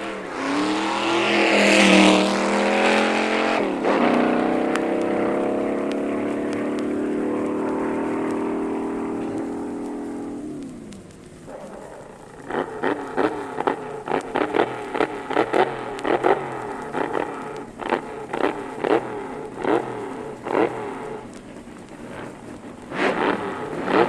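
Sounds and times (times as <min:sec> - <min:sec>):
race car engine revving: 0:00.0 - 0:24.0.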